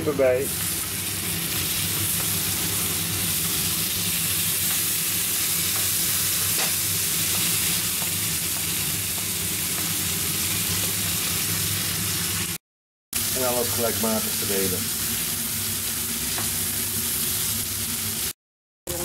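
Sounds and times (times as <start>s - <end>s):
chicken sizzling in a wok: 0.0s - 12.6s, 13.2s - 19.0s.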